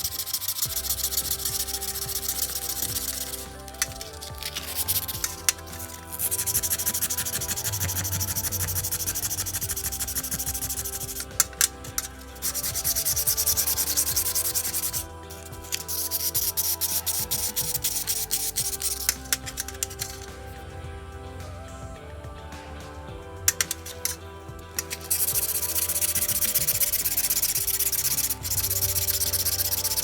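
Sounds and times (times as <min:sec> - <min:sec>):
sanding metal: 0:00.0 - 0:11.4, 0:12.3 - 0:20.2, 0:24.8 - 0:30.0.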